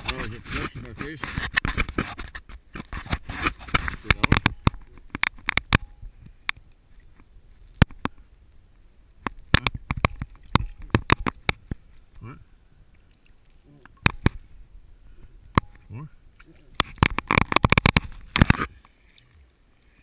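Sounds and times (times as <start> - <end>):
water splashing against camera housing: 0.0 - 8.3, 9.2 - 12.3, 13.0 - 14.6, 15.4 - 19.4.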